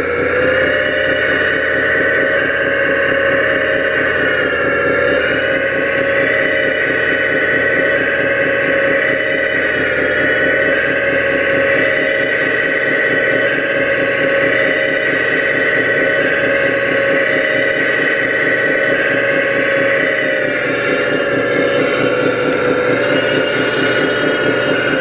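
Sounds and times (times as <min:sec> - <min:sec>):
toy excavator hydraulic pump whining: 0:00.0 - 0:25.0.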